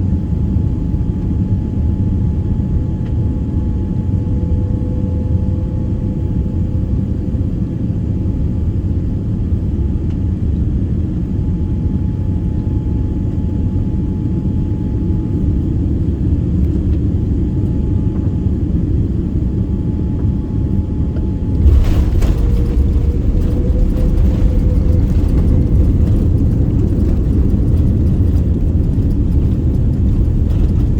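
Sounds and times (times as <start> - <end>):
jet cabin rumble: 0.0 - 30.9.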